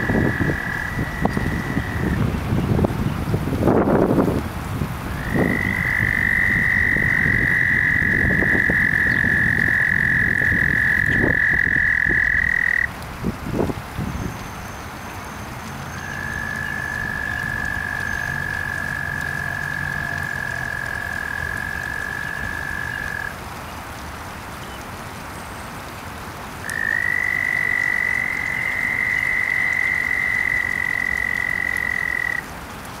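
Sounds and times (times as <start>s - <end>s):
light rain on a pond: 0.0s - 33.0s.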